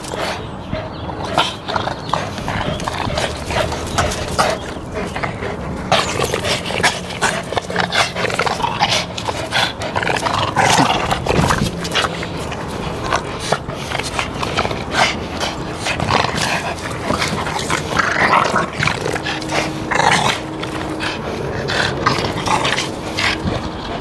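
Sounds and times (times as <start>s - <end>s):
dogs play growling: 0.0s - 24.0s
dogs scuffling: 1.2s - 24.0s.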